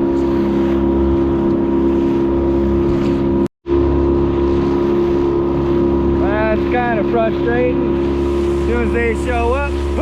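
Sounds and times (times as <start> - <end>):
boat motor running: 0.0 - 10.0
hull and water noise: 0.0 - 10.0.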